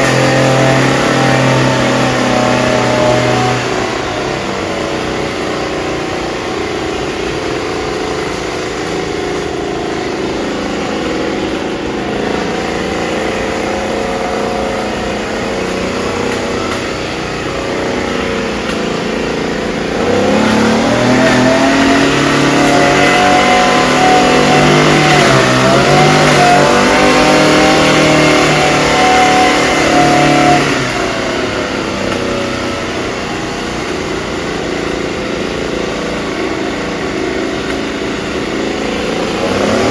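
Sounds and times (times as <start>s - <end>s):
small engine running and revving: 0.0s - 39.9s.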